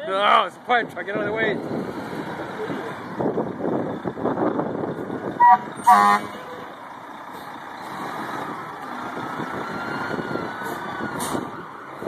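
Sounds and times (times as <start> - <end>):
fire engine motor running: 1.6 - 12.0.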